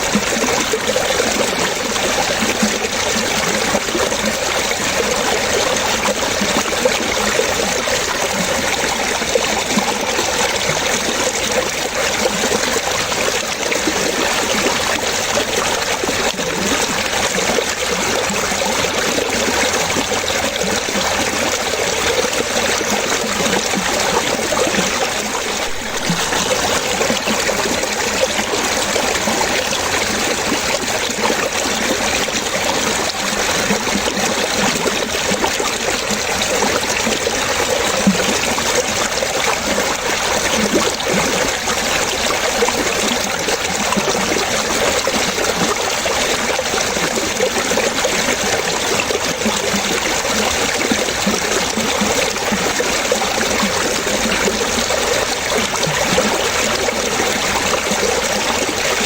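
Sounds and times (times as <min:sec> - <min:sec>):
water running and trickling: 0:00.0 - 0:59.0.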